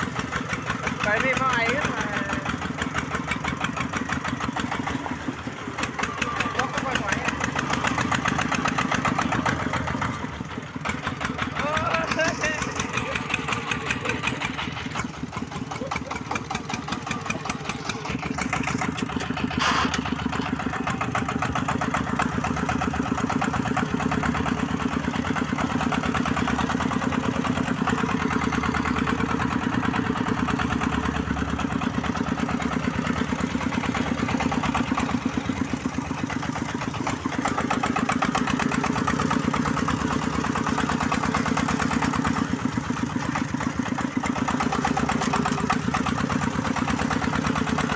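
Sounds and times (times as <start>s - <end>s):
diesel engine chugging: 0.0s - 47.9s.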